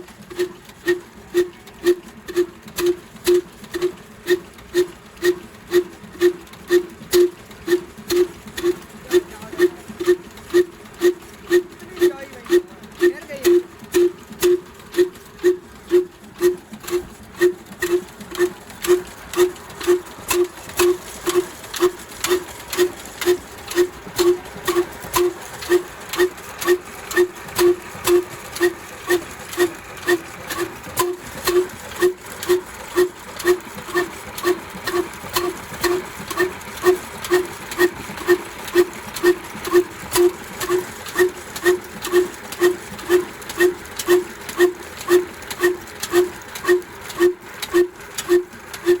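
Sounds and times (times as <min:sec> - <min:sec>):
diesel engine running slowly: 0:00.0 - 0:49.0
sharp mechanical clicks: 0:04.6 - 0:49.0.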